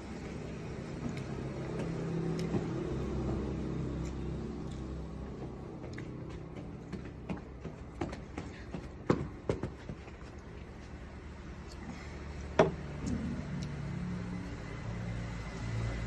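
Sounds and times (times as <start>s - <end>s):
low motor hum: 0.0s - 9.4s, 10.0s - 16.0s.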